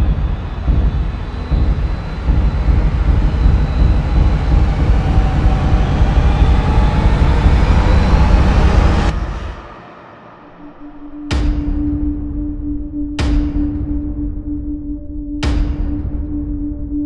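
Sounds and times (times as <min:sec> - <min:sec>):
deep rumble with hiss: 0:00.0 - 0:14.8.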